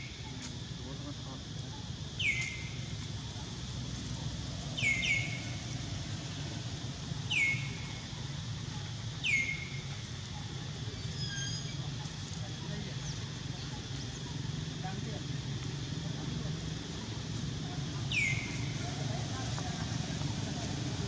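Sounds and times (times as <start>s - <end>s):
steady low background noise: 0.0s - 21.0s.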